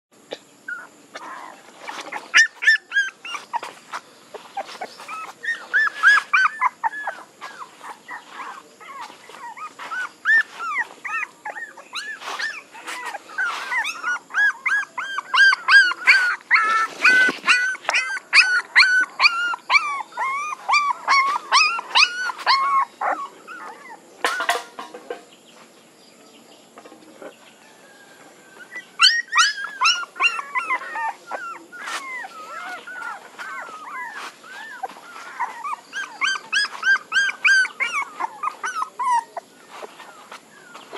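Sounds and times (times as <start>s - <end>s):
puppy whimpering and crying: 0.7s - 3.8s, 4.6s - 24.0s, 28.5s - 40.9s.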